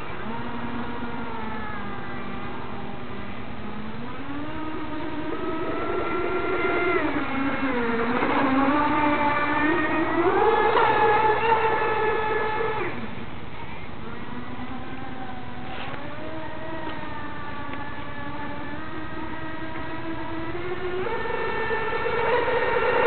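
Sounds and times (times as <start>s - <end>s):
model powerboat motor whining: 0.0s - 23.0s.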